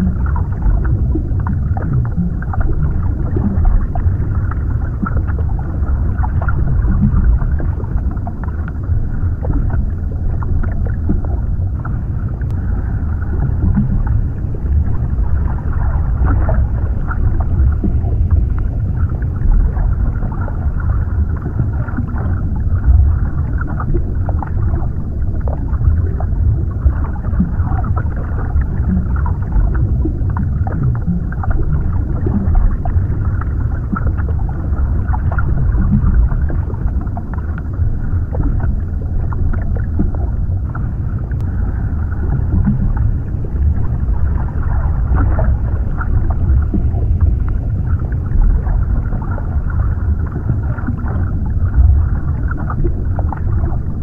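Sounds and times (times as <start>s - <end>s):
deep underwater rumble: 0.0s - 54.0s.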